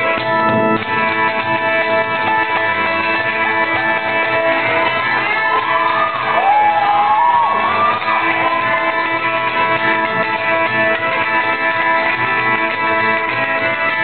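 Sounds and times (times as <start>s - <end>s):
fiddle and guitar playing old-time tune: 0.0s - 6.6s, 7.2s - 14.0s.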